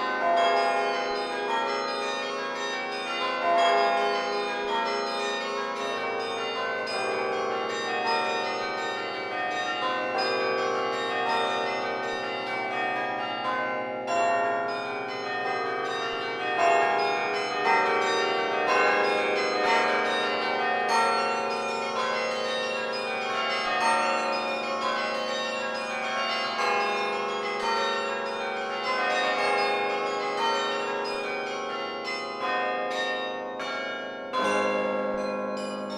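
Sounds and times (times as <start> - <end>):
carillon bells playing: 0.0 - 35.9.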